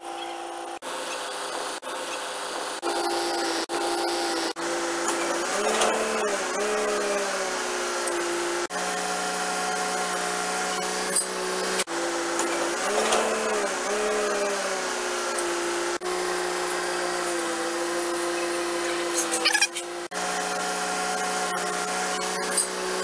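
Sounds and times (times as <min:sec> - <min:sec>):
machinery whining hum: 0:00.0 - 0:23.0.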